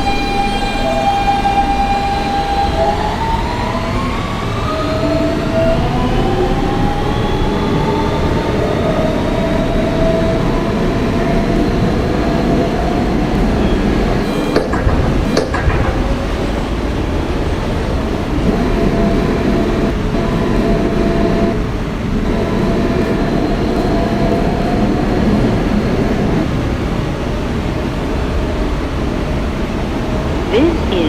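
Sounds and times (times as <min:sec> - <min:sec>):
faint traction motor whine: 0:00.0 - 0:31.0
rumble of wheels on rail: 0:00.0 - 0:31.0.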